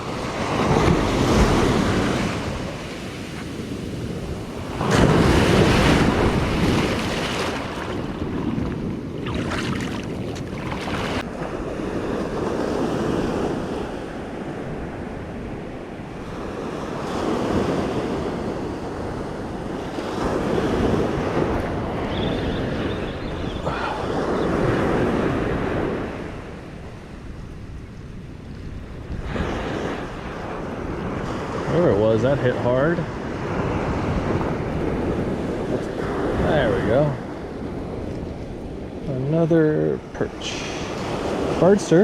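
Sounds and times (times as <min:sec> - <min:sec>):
ocean surf breaking on beach: 0:00.0 - 0:42.0
wind buffeting microphone: 0:00.0 - 0:42.0.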